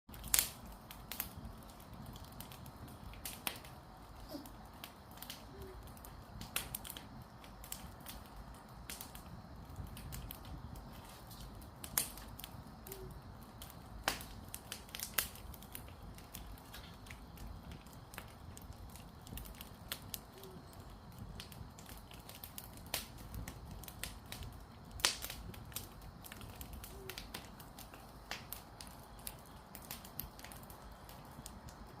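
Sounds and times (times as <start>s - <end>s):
firewood crackling and popping: 0.1s - 32.0s.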